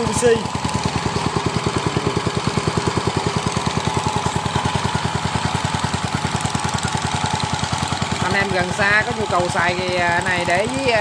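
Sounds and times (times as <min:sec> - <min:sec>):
petrol engine running steadily: 0:00.0 - 0:11.0.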